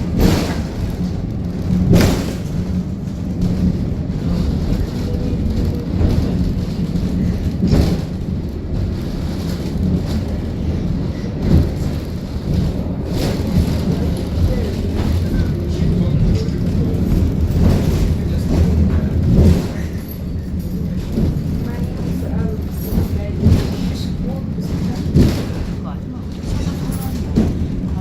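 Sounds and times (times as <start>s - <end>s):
railcar rumble and hum: 0.0s - 28.0s.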